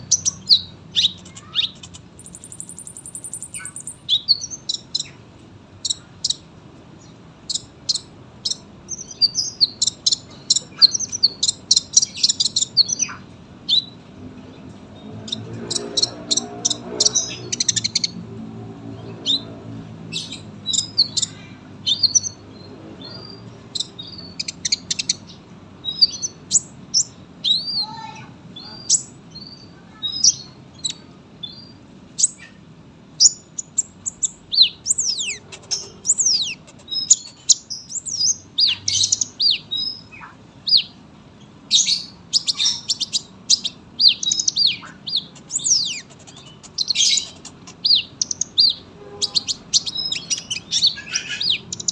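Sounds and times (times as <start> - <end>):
sunbird singing high chirps: 0.0 - 5.2, 5.8 - 14.0, 14.9 - 18.2, 18.9 - 32.6, 33.2 - 51.9.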